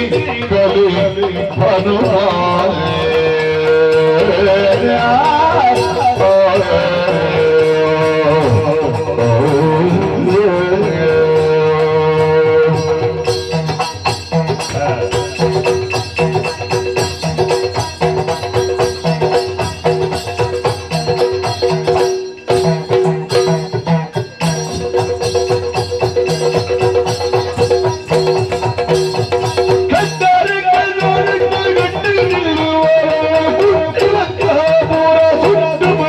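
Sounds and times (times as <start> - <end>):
drums: 0.0 - 36.0.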